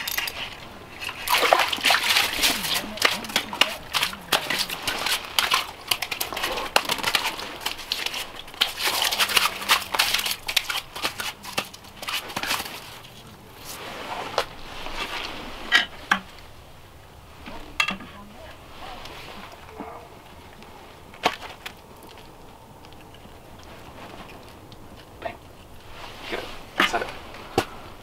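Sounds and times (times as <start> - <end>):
snow and ice crunching: 0.0 - 16.6, 18.4 - 28.0
clothing rustle: 0.0 - 28.0.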